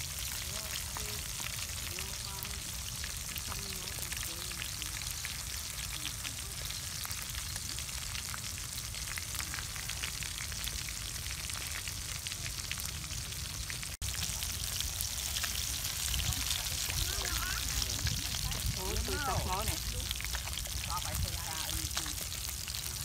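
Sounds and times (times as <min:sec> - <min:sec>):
fish frying in hot oil: 0:00.0 - 0:23.0.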